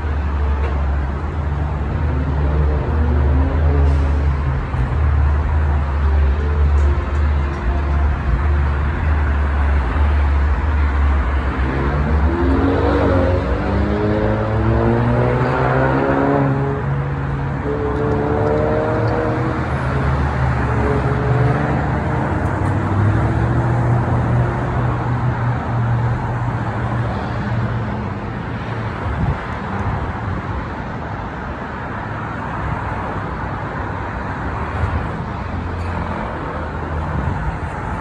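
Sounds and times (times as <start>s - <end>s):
road traffic rumble: 0.0s - 38.0s
vehicle engine hum: 0.0s - 38.0s.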